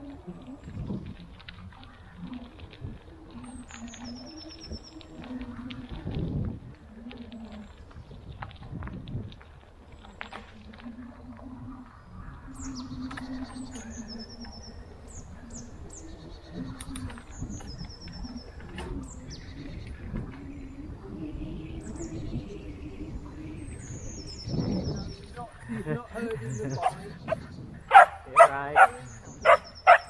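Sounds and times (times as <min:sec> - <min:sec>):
bicycle rolling on forest path: 0:00.0 - 0:30.0
small birds chirping and trilling: 0:00.0 - 0:30.0.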